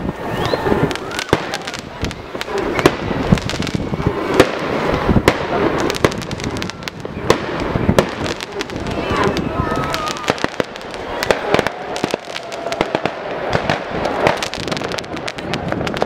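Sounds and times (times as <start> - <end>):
crackling fireworks pops: 0.0 - 16.0
fireworks bangs and pops: 0.0 - 16.0.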